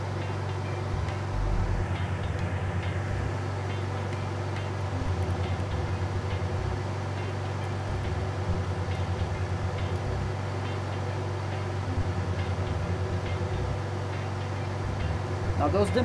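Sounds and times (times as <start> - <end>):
blower humming: 0.0 - 16.0.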